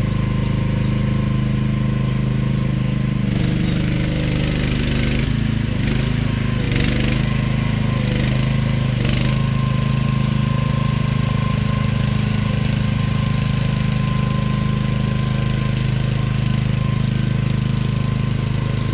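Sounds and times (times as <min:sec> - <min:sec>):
excavator engine running: 0:00.0 - 0:18.9
steady high whine: 0:00.0 - 0:18.9.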